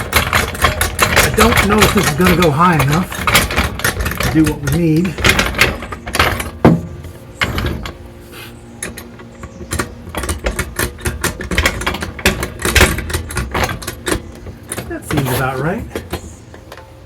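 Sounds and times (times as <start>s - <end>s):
hydraulic floor jack pumping: 0.0s - 16.9s.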